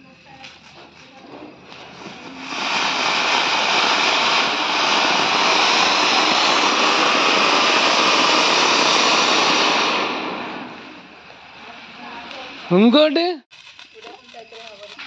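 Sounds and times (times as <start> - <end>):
firework fountain hissing: 0.0 - 15.0.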